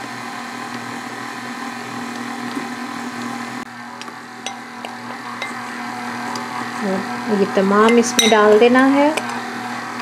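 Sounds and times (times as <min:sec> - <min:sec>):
stand mixer running: 0:00.0 - 0:10.0.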